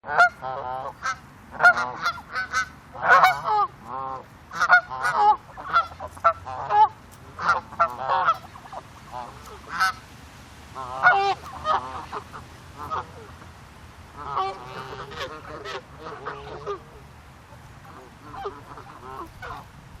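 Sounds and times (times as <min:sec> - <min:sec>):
ducks quacking: 0:00.1 - 0:10.0, 0:10.7 - 0:13.4, 0:14.1 - 0:20.0.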